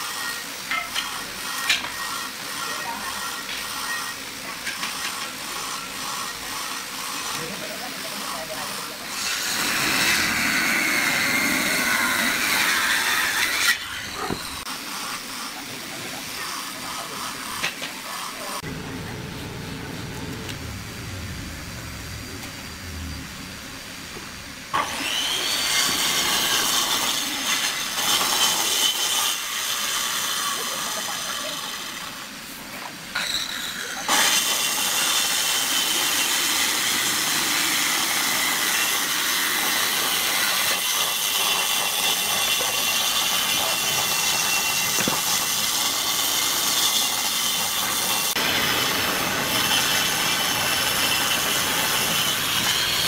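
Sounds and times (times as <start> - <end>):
electric power saw cutting wood: 0.0 - 32.4, 33.1 - 53.0.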